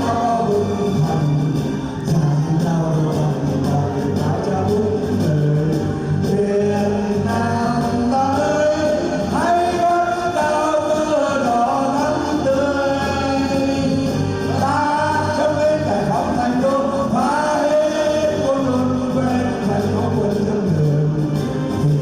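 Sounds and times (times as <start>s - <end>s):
instrumental accompaniment with bass: 0.0s - 22.0s
person singing: 0.0s - 22.0s.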